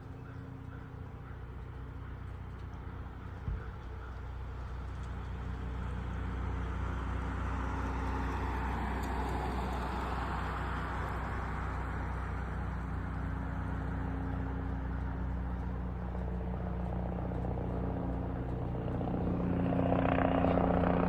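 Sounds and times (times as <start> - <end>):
aircraft flying past: 0.0 - 21.0
steady low hum: 0.0 - 21.0.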